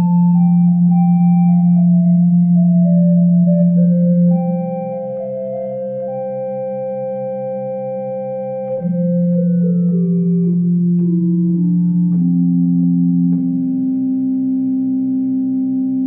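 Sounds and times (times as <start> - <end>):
electronic keyboard chords and melody: 0.0 - 16.0.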